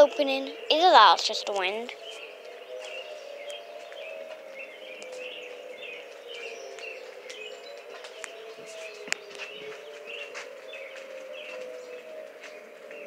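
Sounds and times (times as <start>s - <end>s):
birds chirping: 0.0s - 13.0s
distant warning sirens wailing: 0.0s - 13.0s.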